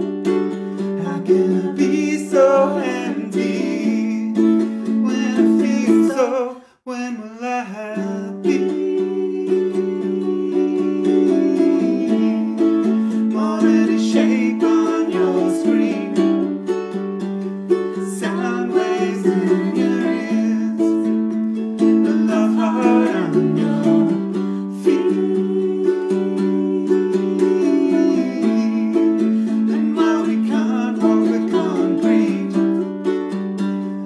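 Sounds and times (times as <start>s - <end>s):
ukuleles strumming: 0.0s - 6.5s, 7.7s - 34.0s
person singing: 0.0s - 34.0s.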